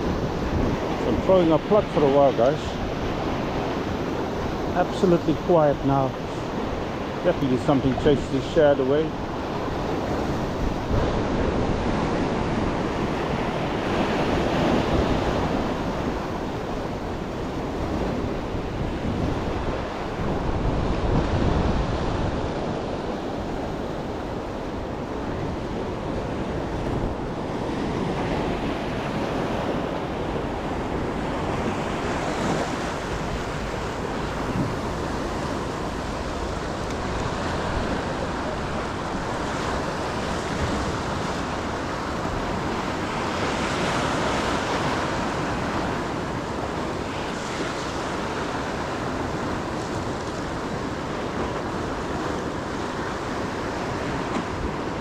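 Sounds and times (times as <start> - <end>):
ocean surf breaking on shore: 0.0 - 55.0
wind buffeting microphone: 0.0 - 55.0.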